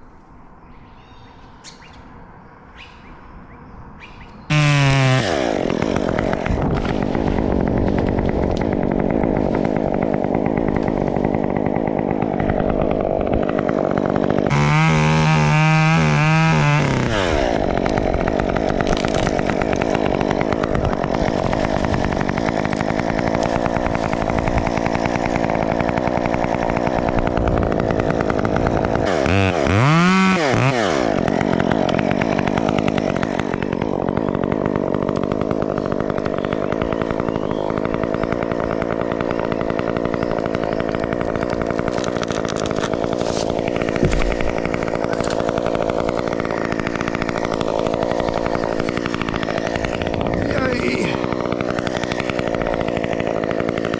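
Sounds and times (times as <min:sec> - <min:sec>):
chainsaw idling and revving: 0:04.5 - 0:53.9.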